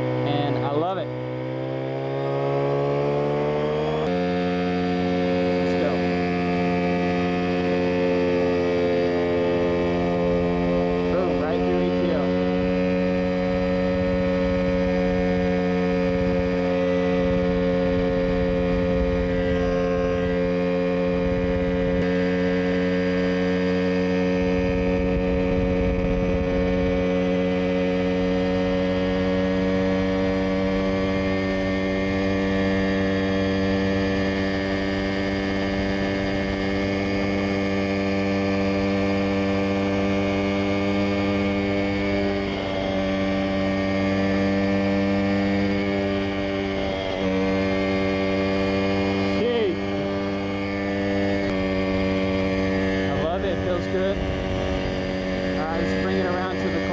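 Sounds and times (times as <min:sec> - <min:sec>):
helicopter engine and rotor drone: 0:00.0 - 0:56.9.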